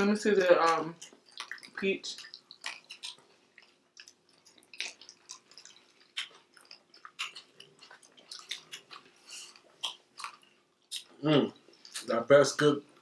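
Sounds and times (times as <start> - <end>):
close chewing and mouth noises: 0.0 - 13.0.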